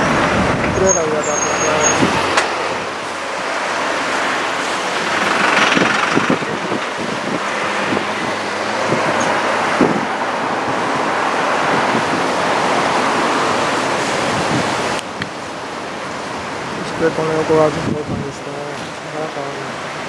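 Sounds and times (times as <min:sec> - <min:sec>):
road traffic: 0:00.0 - 0:20.0
surf rushing: 0:00.0 - 0:20.0.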